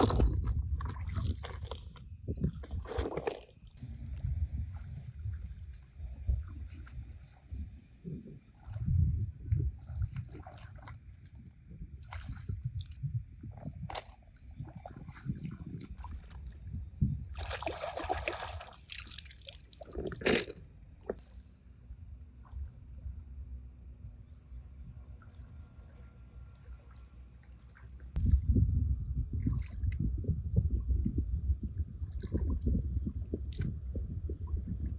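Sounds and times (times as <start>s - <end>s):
water sloshing and splashing: 0.0s - 21.5s, 25.1s - 28.5s, 29.3s - 30.2s, 31.8s - 34.9s.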